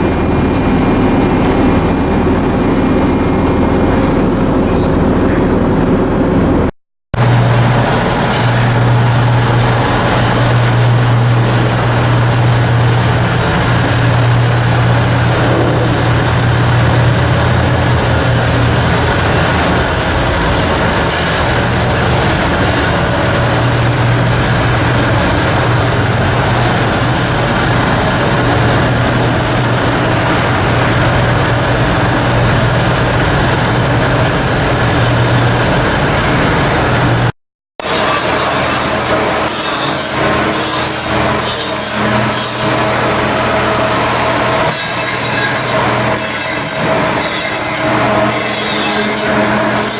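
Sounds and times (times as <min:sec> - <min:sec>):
heavy machinery running: 0:00.0 - 0:49.9.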